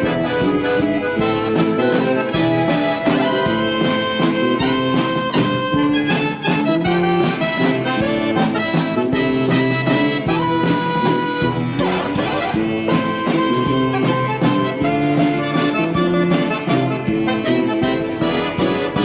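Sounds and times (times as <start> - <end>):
harmonica melody: 0.0 - 19.0
steady beat: 0.0 - 19.0
strummed guitar: 0.0 - 19.0.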